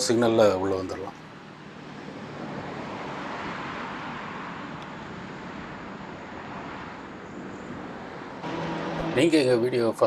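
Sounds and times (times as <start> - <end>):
hiss of cars on road: 1.6 - 9.9.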